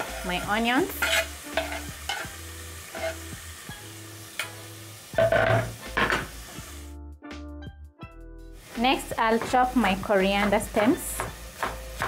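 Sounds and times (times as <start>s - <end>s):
onions sizzling in hot oil: 0.0s - 7.0s, 8.5s - 12.0s
background music with steady beat: 0.0s - 12.0s.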